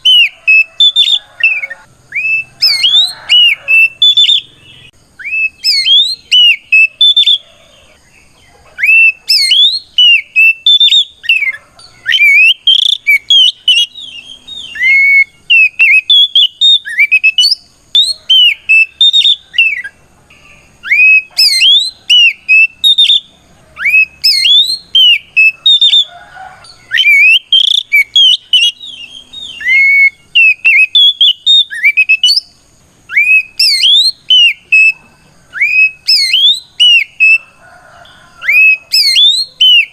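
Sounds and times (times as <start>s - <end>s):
bird singing whistled phrases: 0.0s - 7.5s, 8.8s - 26.1s, 26.8s - 37.4s, 38.4s - 39.9s.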